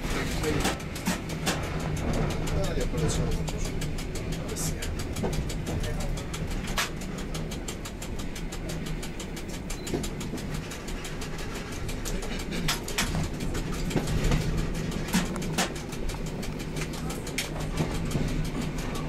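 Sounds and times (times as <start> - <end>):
fast even ticking: 0.0 - 19.0
sharp track clicks: 0.0 - 19.0
train rumbling: 0.0 - 19.0.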